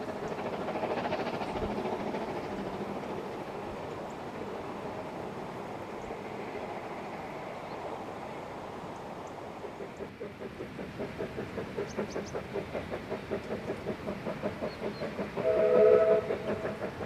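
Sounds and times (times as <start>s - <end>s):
steam train rumbling on rails: 0.0s - 17.0s.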